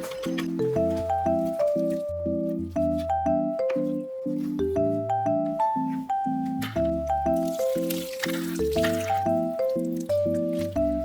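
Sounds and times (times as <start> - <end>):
light instrumental music: 0.0 - 11.0.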